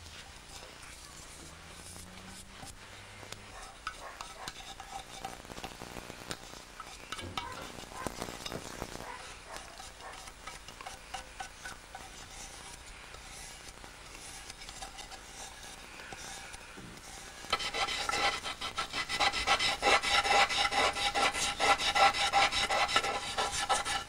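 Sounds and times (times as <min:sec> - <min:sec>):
hand tool scratching bowl rim: 0:00.4 - 0:02.8, 0:03.4 - 0:24.0.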